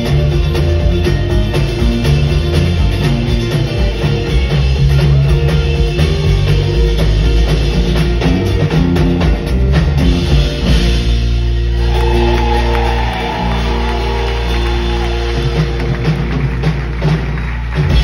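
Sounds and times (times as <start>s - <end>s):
acoustic and electric guitars: 0.0s - 18.0s
drum kit: 0.0s - 18.0s
upright bass: 0.0s - 18.0s.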